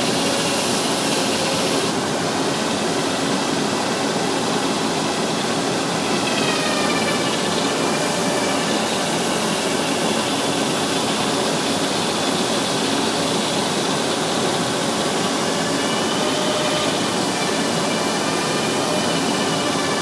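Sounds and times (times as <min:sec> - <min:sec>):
sanding machine running: 0:00.0 - 0:20.0.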